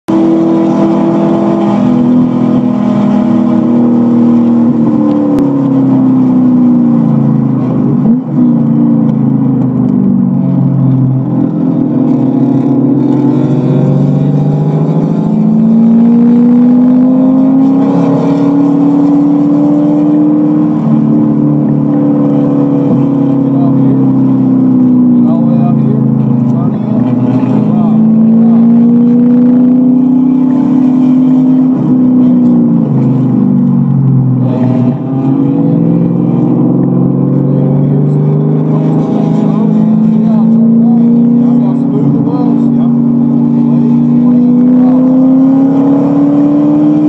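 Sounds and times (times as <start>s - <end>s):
car engine braking and accelerating: 0.1s - 47.0s.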